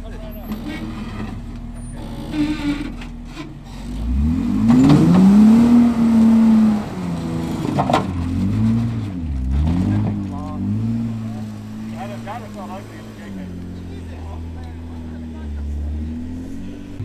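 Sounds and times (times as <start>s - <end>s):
off-road engine revving: 0.0s - 17.0s.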